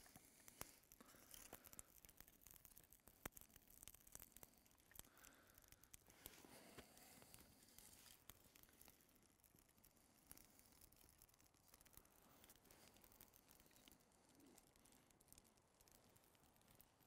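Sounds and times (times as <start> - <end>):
small fire crackling: 0.0 - 17.0.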